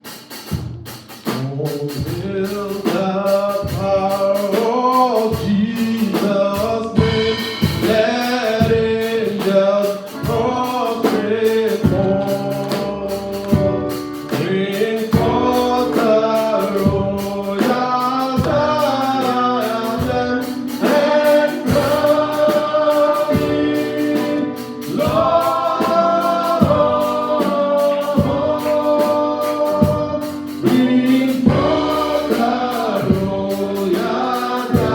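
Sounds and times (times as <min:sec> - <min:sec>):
band with steady beat: 0:00.0 - 0:34.9
voices singing together: 0:01.8 - 0:34.9.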